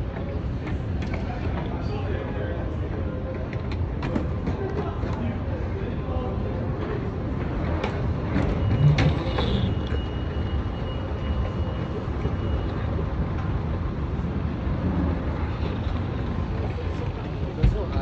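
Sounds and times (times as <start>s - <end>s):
vehicle rumbling in motion: 0.0s - 18.0s.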